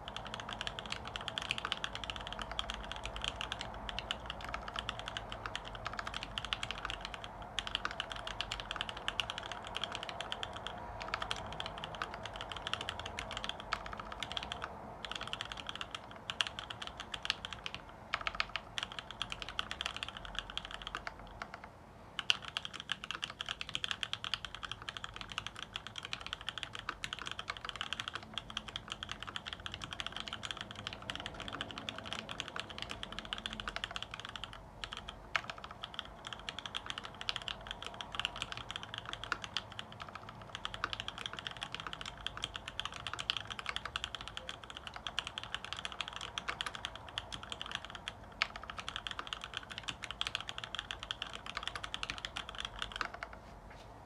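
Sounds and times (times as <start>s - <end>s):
fast mechanical keyboard typing: 0.0s - 53.4s.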